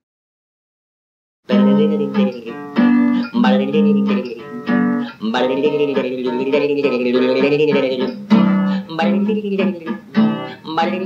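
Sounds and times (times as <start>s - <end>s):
acoustic guitar strumming: 1.5s - 11.0s
wavering held melody line: 1.5s - 11.0s.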